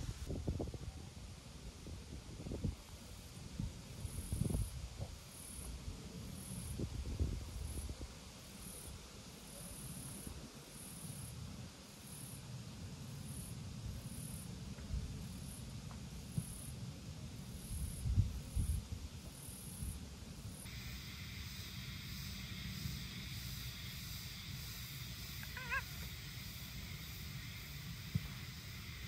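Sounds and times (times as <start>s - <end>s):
insects chirping: 1.4s - 29.0s.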